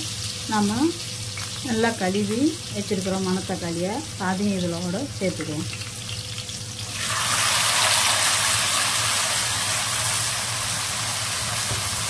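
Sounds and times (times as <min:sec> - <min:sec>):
berries sizzling in hot oil: 0:00.0 - 0:12.0.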